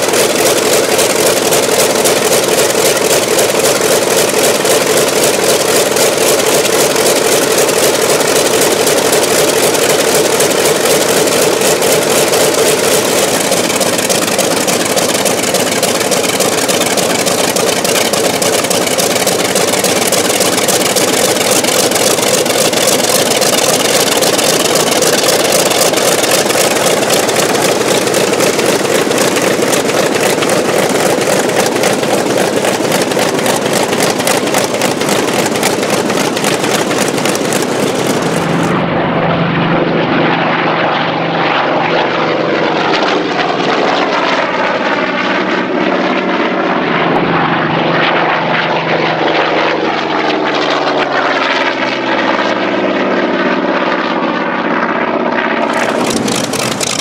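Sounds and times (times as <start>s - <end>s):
aircraft flying past: 0.0s - 57.0s
propeller aircraft engine drone: 0.0s - 57.0s.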